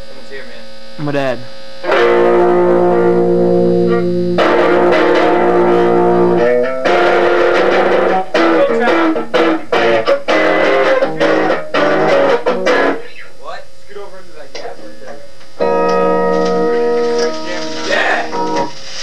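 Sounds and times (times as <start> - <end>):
electric guitar chords: 1.0 - 13.2, 15.1 - 18.8.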